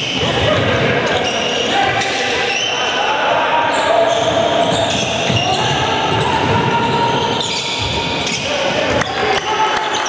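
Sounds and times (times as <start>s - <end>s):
mixed voices echoing in a hall: 0.0s - 10.0s.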